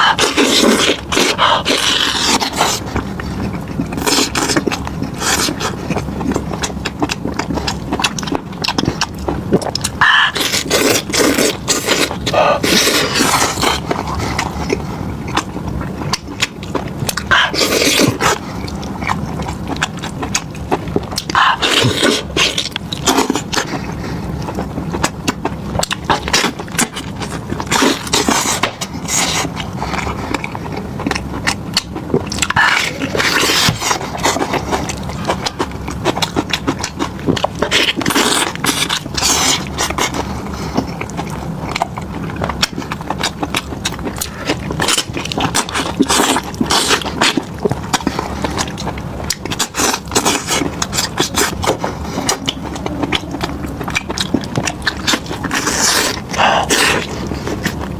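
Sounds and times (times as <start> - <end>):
chewing and biting meat: 0.0 - 57.9.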